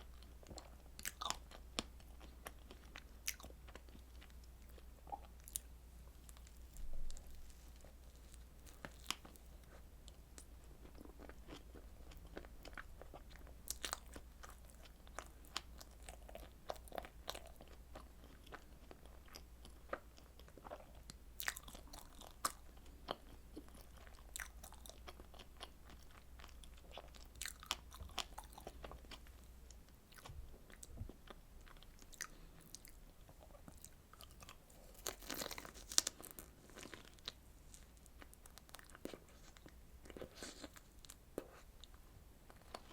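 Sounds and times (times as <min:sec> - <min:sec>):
person chewing crunchy food: 0:00.0 - 0:42.9.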